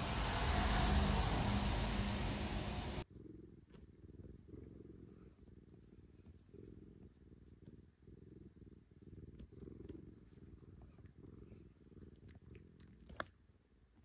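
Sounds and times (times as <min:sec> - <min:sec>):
cat purring: 0:00.0 - 0:13.5.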